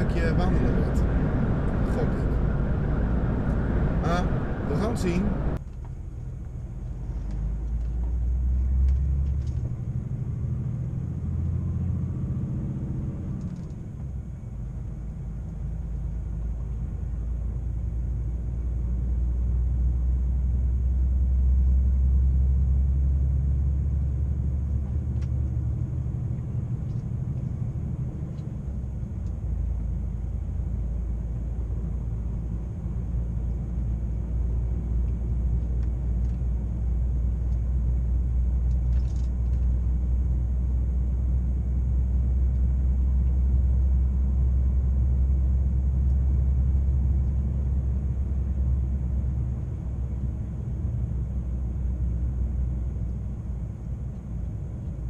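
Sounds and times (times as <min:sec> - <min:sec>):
truck engine drone: 0:00.0 - 0:55.0.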